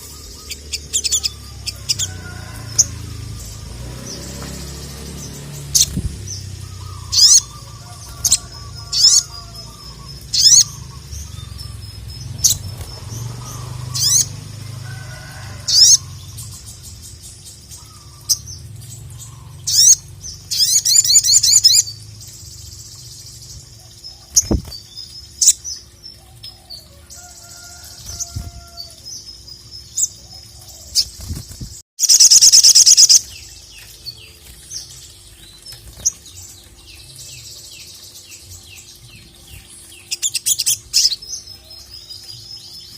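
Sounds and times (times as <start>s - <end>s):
bird chirping and trilling: 0.0s - 42.9s.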